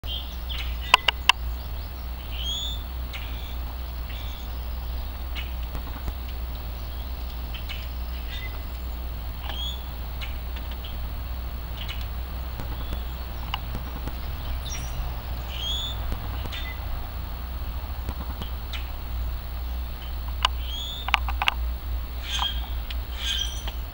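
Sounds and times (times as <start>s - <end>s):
small birds chirping: 0.0s - 23.9s
steady low rumble: 0.0s - 23.9s
woodpecker pecking: 0.4s - 23.9s.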